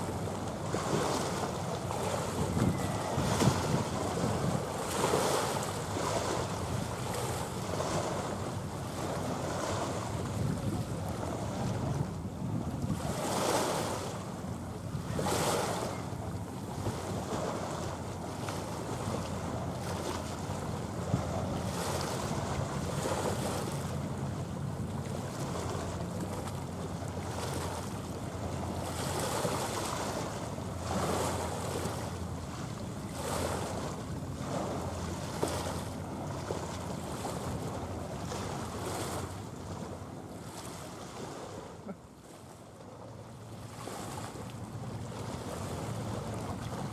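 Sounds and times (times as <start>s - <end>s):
wind rumble on microphone: 0.0s - 41.7s
small waves washing ashore: 0.0s - 46.9s.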